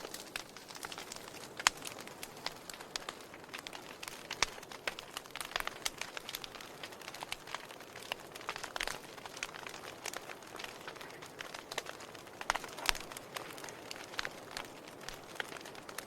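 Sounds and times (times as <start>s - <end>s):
burning wood snapping and popping: 0.0s - 16.0s
steady hiss of flames: 0.0s - 16.0s.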